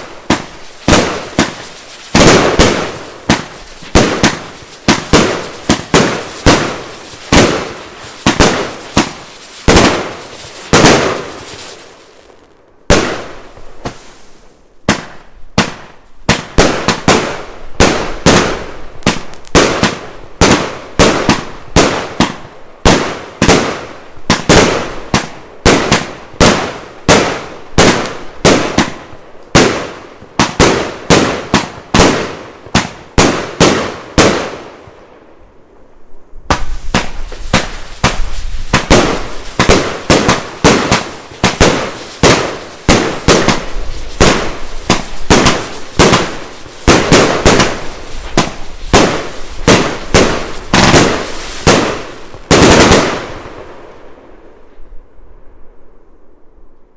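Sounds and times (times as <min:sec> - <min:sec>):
fireworks bangs: 0:00.0 - 0:34.9, 0:36.4 - 0:54.0.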